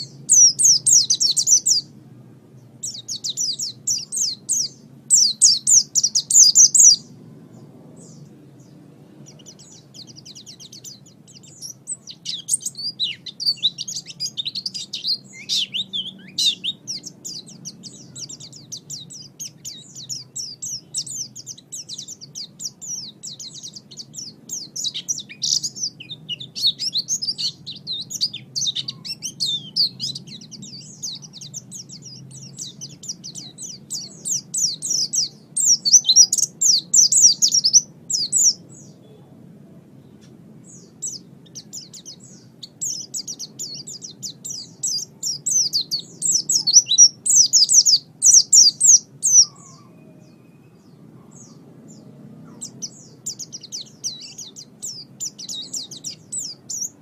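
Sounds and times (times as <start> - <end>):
faint low hum: 0.0 - 57.0
songbird chirping and trilling: 0.0 - 57.0.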